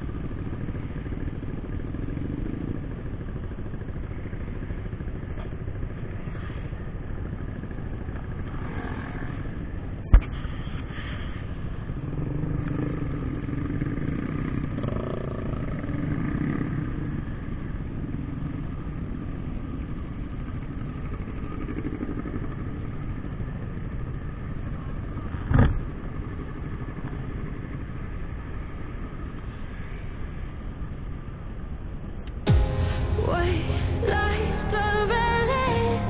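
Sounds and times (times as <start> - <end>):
road and wind noise: 0.0 - 33.6
motorcycle engine running: 0.0 - 36.0.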